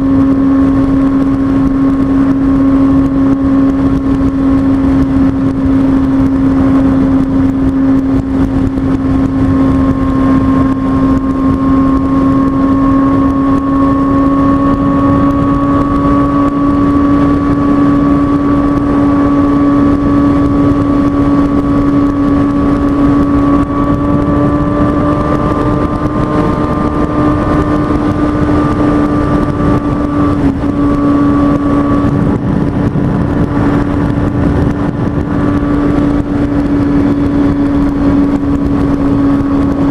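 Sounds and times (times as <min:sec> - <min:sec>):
heavy wind noise: 0:00.0 - 0:39.9
motorcycle engine cruising: 0:00.0 - 0:39.9.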